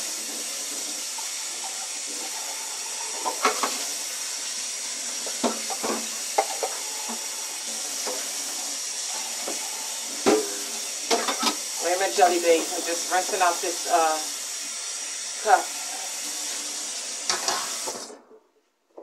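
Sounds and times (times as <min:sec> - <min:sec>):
tap water running: 0:00.0 - 0:18.2.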